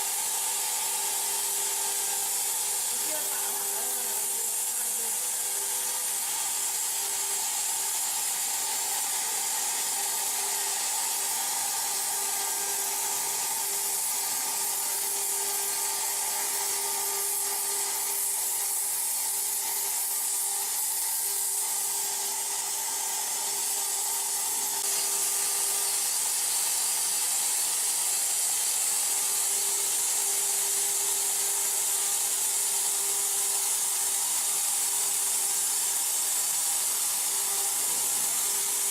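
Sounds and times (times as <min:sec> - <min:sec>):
plasma torch hissing: 0:00.0 - 0:38.9.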